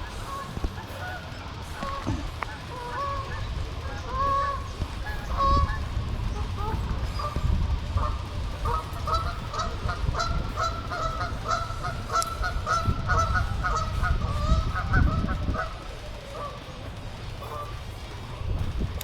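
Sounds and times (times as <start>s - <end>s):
geese honking: 0.0s - 19.0s
low rumble: 0.0s - 19.0s.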